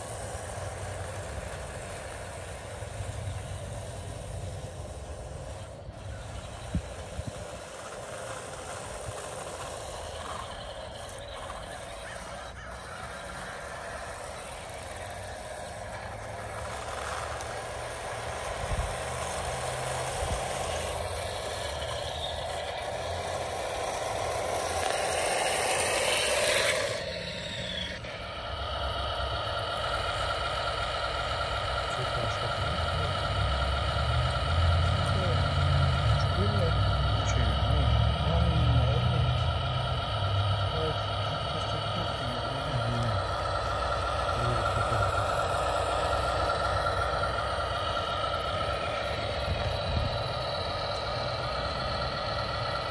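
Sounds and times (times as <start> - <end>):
electric motor and gearbox running: 0.0 - 52.9.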